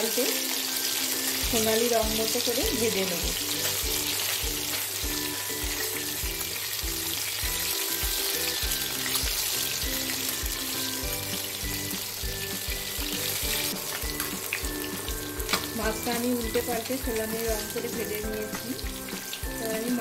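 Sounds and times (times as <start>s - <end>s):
hot oil sizzling: 0.0s - 20.0s
background music with steady beat: 0.1s - 20.0s.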